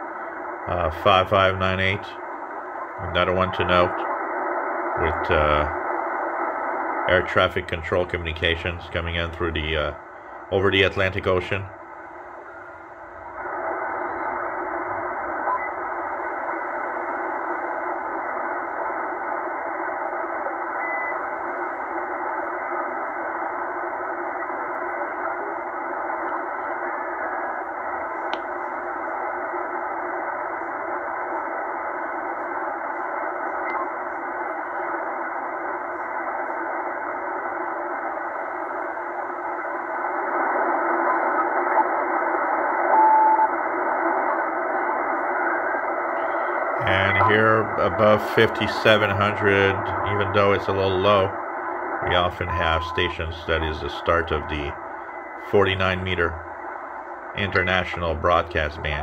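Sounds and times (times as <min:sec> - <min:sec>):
radio receiver static: 0:00.0 - 0:59.0.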